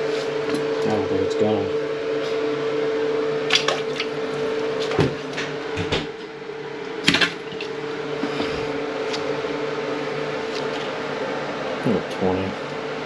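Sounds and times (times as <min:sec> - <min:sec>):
electrical fan hum: 0:00.0 - 0:13.0.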